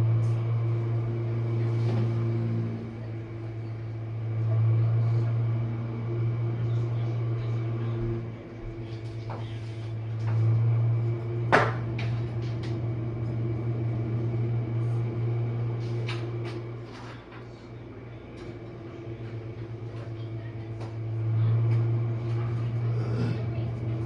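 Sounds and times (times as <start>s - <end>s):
dishwasher pump humming: 0.0s - 24.0s.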